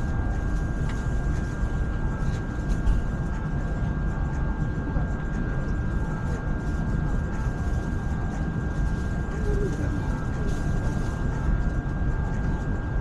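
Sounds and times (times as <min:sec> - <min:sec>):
constant high whine: 0:00.0 - 0:13.0
electric train rumbling: 0:00.0 - 0:13.0.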